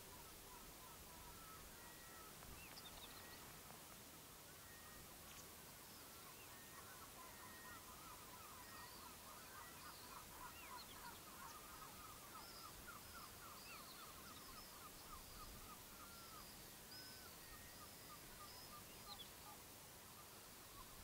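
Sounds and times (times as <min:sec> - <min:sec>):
faint bird calls: 0:00.0 - 0:21.0.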